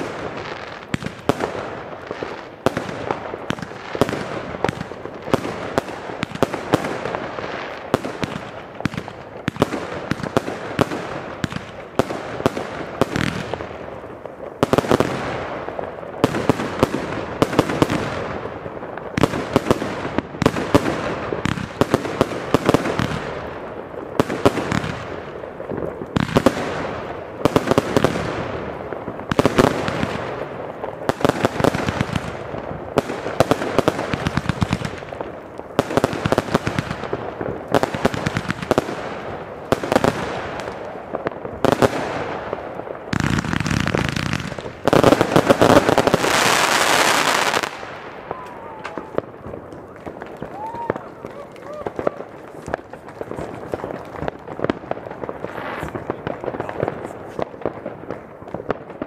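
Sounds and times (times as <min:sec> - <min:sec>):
fireworks bangs and crackling: 0:00.0 - 0:59.0
loud firework booms: 0:00.0 - 0:59.0.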